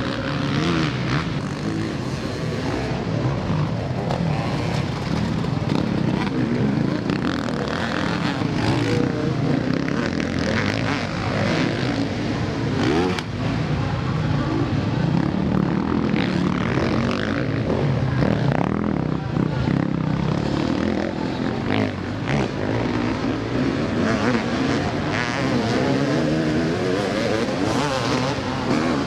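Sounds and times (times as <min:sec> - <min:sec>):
motocross bikes revving: 0:00.0 - 0:29.0.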